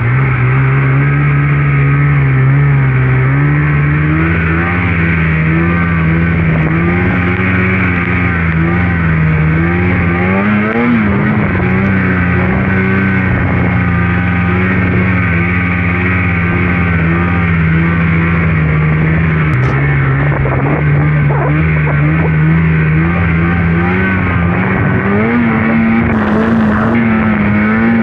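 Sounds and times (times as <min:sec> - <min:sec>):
snowmobile engine under load: 0:00.0 - 0:28.0.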